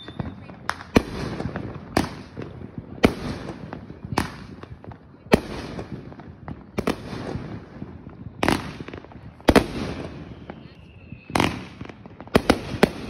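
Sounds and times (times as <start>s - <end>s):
faint firework pops: 0.0s - 13.0s.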